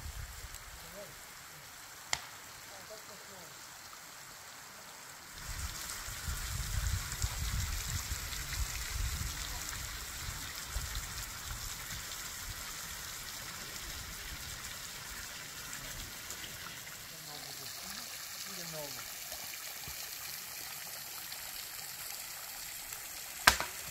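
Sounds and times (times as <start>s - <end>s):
water dripping off rock: 2.1s - 4.0s, 5.4s - 23.9s.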